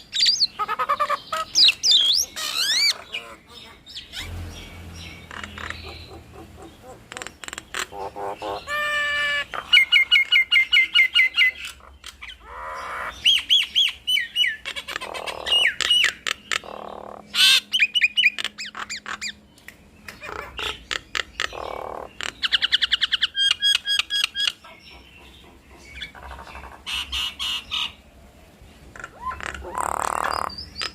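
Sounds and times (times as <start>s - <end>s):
mynas calling: 0.0s - 30.9s.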